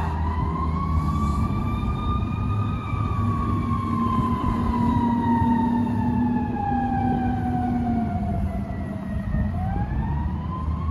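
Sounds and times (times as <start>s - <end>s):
fire truck siren wailing: 0.0s - 10.9s
truck engine rumble: 0.0s - 10.9s.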